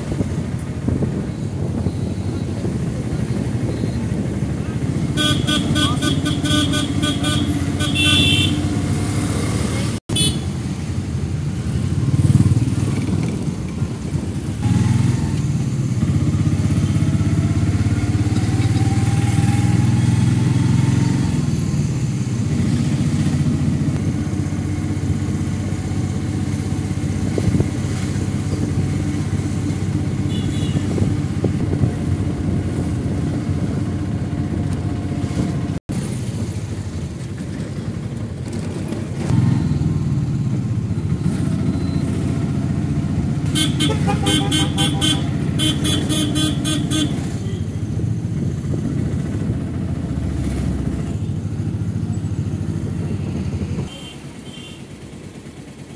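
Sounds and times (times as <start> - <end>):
car engine and road noise: 0.0 - 55.9
street traffic: 0.0 - 55.9.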